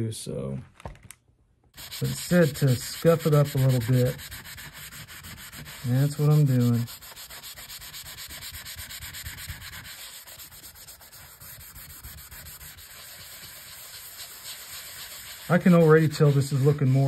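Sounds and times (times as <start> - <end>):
abrasive pad scrubbing steel: 1.8 - 17.0.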